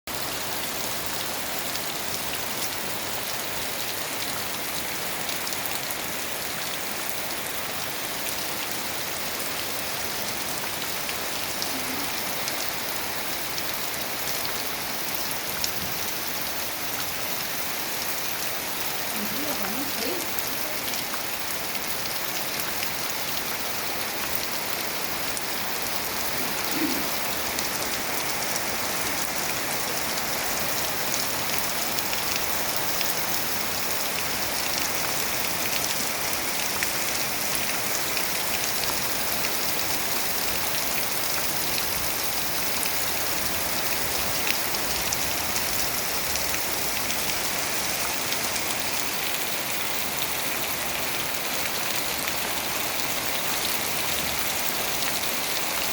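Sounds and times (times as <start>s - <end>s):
heavy rain pouring: 0.1s - 55.9s.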